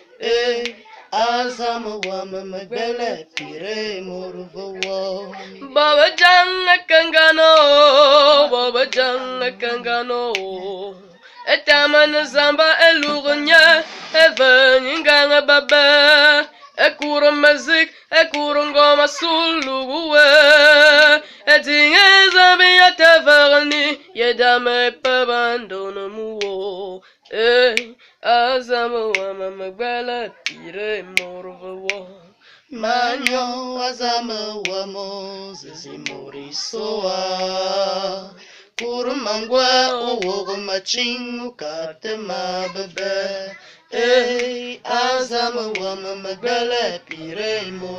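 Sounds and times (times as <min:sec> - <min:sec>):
person singing solo: 0:00.0 - 0:47.9.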